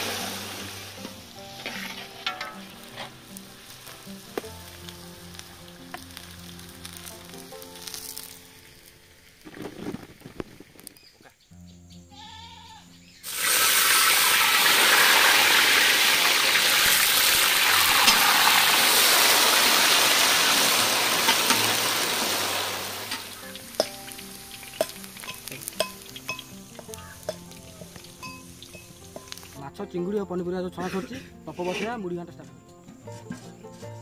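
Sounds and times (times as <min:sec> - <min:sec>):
food sizzling in hot oil: 0:00.0 - 0:11.1, 0:13.2 - 0:29.7.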